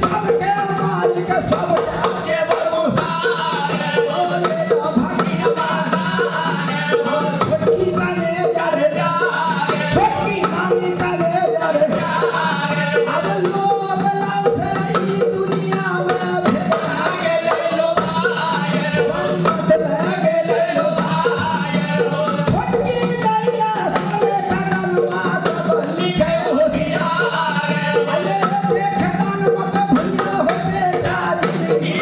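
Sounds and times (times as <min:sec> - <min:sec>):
hand drums in steady rhythm: 0:00.0 - 0:32.0
men singing together: 0:00.0 - 0:32.0.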